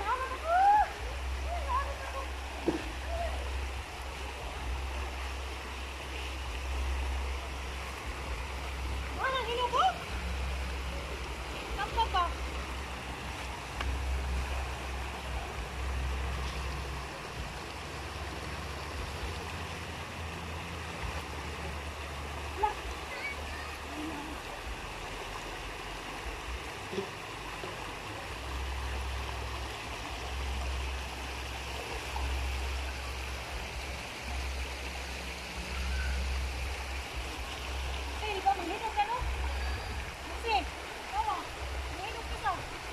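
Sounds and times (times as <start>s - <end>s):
low rumble: 0.0s - 23.1s, 27.4s - 42.9s
creek water running: 0.0s - 42.9s.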